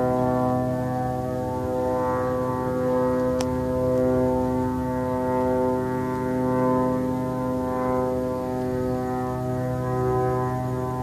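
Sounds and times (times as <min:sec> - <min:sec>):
drone humming overhead: 0:00.0 - 0:11.0.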